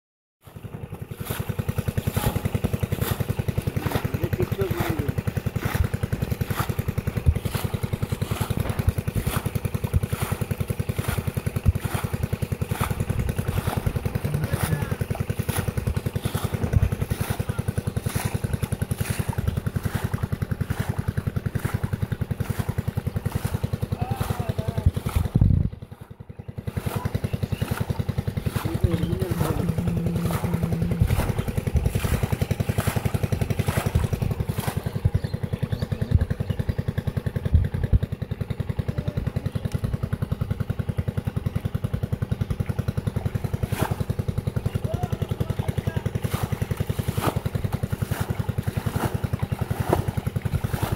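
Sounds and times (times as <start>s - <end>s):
small engine running: 0.4s - 50.9s.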